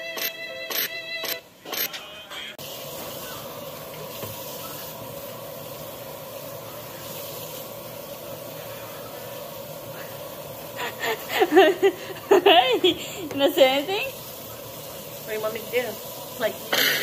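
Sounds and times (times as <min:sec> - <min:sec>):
faucet water running: 0:02.6 - 0:17.0.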